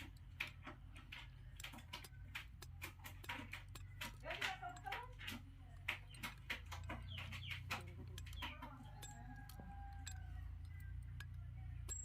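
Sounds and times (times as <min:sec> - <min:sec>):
chickens clucking: 0:00.0 - 0:11.5.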